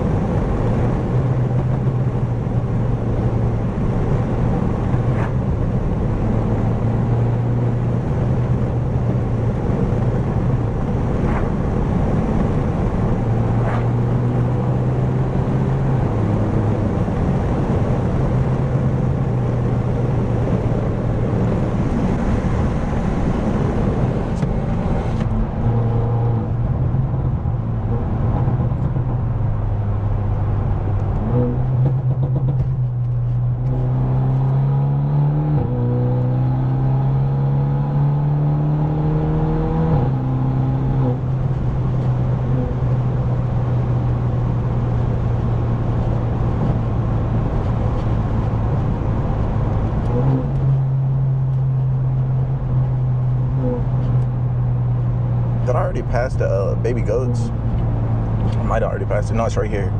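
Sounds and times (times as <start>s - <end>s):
car engine and exhaust droning: 0.0s - 59.9s.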